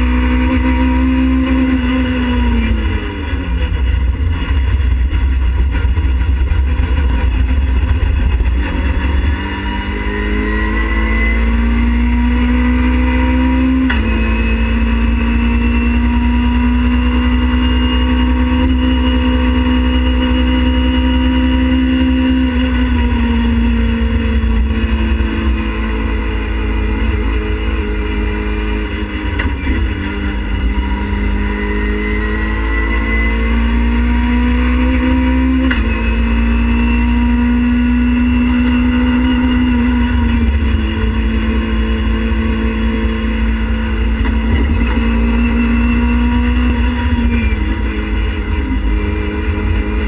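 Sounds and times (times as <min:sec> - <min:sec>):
race car engine accelerating: 0:00.0 - 0:50.0.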